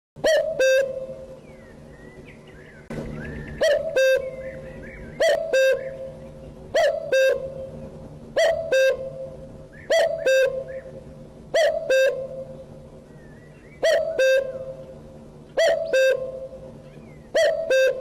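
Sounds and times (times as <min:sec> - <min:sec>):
bird two-note hooting call: 0:00.2 - 0:01.7, 0:03.2 - 0:07.8, 0:08.4 - 0:18.0.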